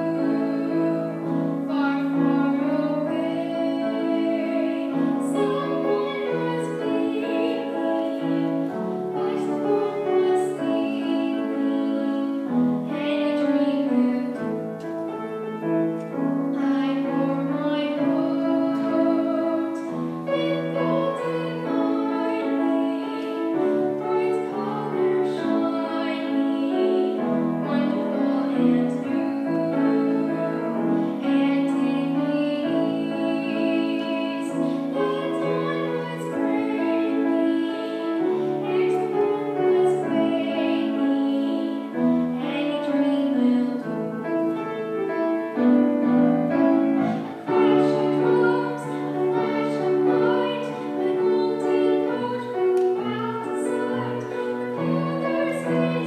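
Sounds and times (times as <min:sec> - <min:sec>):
girl singing: 0:00.0 - 0:56.0
grand piano: 0:00.0 - 0:56.0.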